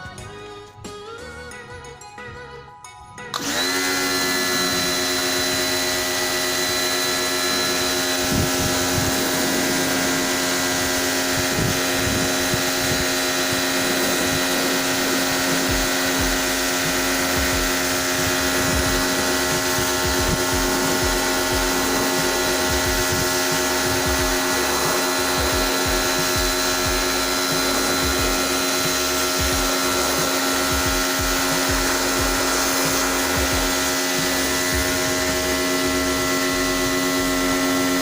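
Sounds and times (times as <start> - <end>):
electric motor running with hiss: 3.3 - 38.0.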